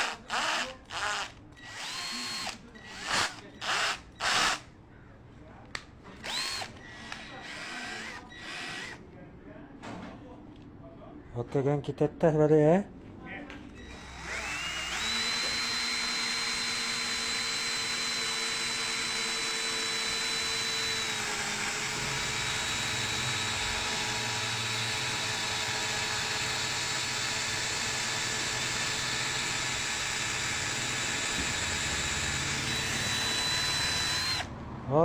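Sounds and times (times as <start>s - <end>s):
cordless drill whining: 0.0s - 4.6s, 6.1s - 9.0s, 13.7s - 34.5s.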